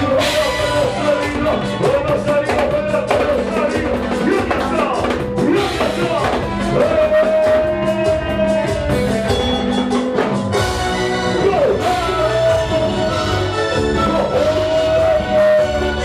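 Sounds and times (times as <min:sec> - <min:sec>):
drum kit beat: 0:00.0 - 0:16.0
sliding melody line: 0:00.0 - 0:16.0.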